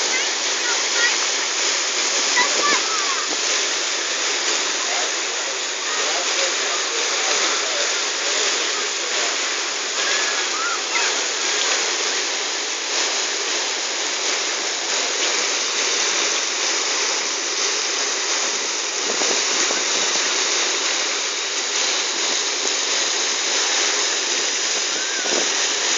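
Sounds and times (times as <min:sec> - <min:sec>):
water jets hissing: 0:00.0 - 0:25.9.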